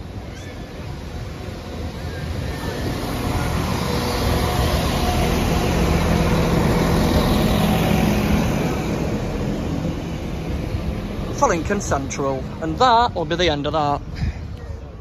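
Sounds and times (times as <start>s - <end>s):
train diesel engines running: 0.0s - 15.0s
wheels rumbling on rail: 0.0s - 15.0s.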